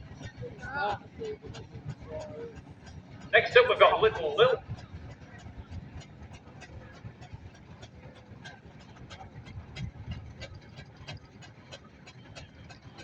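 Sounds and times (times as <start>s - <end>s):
fast irregular clicking: 0.0s - 13.0s
low rumble: 0.0s - 13.0s
steam engine running slowly: 0.0s - 13.0s.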